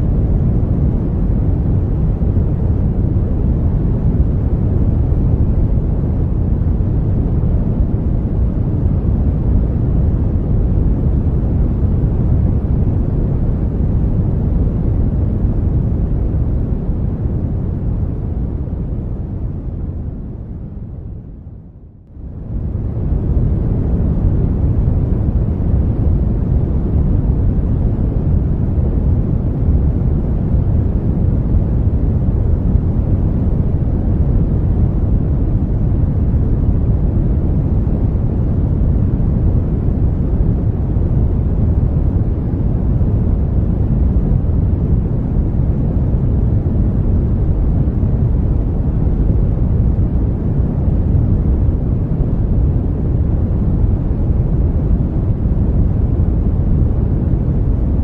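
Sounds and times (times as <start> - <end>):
brown noise rumbling hiss: 0.0 - 58.0.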